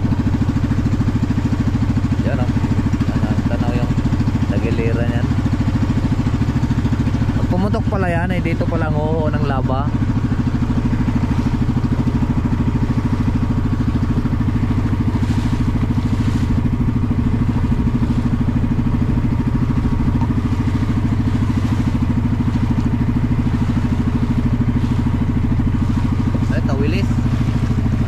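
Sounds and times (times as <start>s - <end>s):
boat engine running: 0.0s - 28.0s
water splashing against hull: 0.0s - 28.0s.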